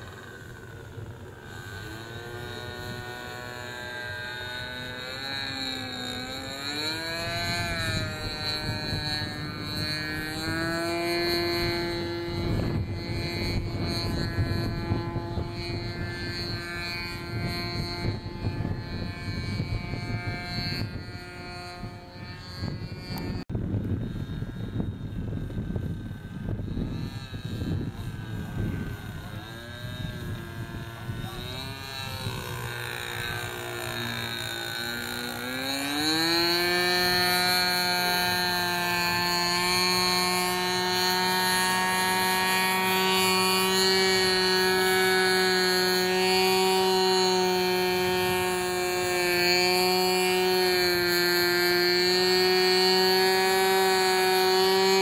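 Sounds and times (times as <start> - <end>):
model plane engine buzzing: 0.0 - 55.0
wind on microphone: 0.0 - 55.0.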